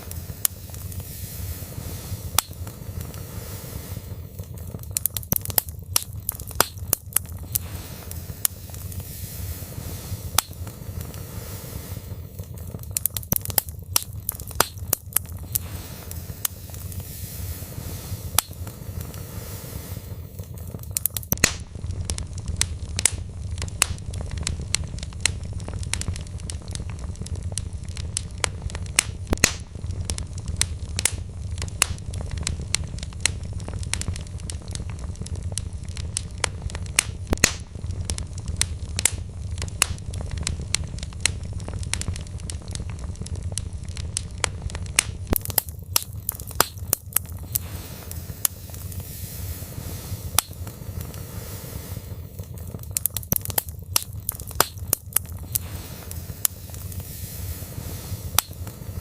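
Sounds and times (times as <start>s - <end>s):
logs popping and snapping: 0.0s - 59.0s
low rumble of flames: 0.0s - 59.0s.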